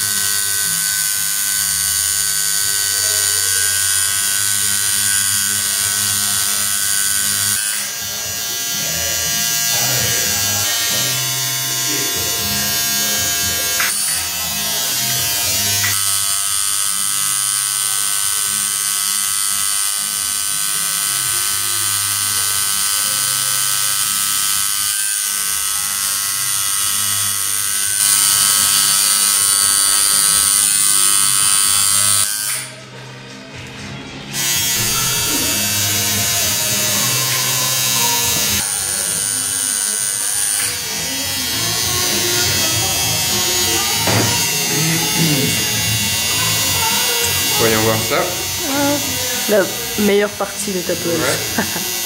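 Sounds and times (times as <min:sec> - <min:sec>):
tattoo machine buzzing: 0:00.0 - 0:32.9, 0:34.3 - 0:52.0
music: 0:00.0 - 0:52.0.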